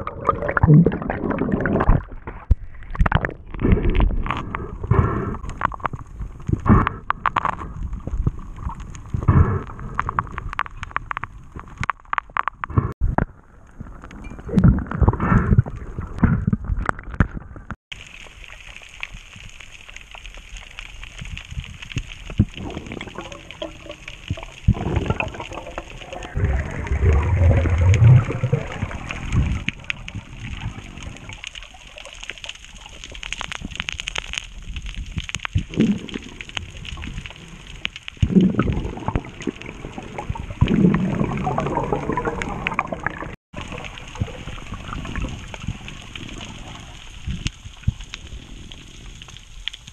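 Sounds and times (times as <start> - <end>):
gurgling bubbles: 0.0 - 10.7, 13.7 - 19.6, 20.5 - 34.0, 35.5 - 49.2
muffled underwater water wash: 0.0 - 11.7, 12.6 - 49.9.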